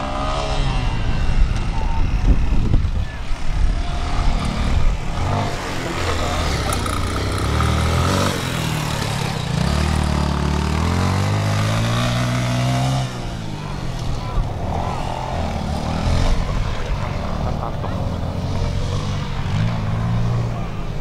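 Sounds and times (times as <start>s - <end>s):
off-road motorcycle engine revving: 0.0s - 21.0s.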